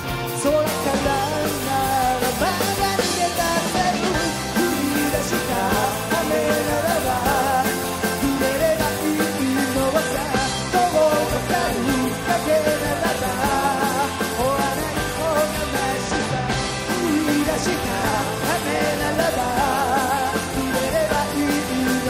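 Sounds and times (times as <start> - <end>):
live rock band playing: 0.0 - 22.0
man singing: 0.2 - 22.0.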